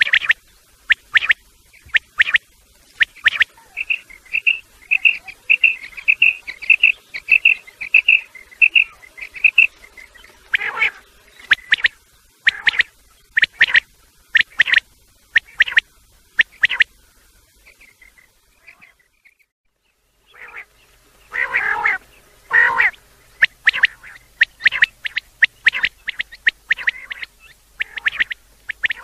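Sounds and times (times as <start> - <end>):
quail calls: 0.0 - 2.4, 3.0 - 14.8, 15.4 - 15.8, 16.4 - 16.9, 20.3 - 20.7, 21.3 - 29.0.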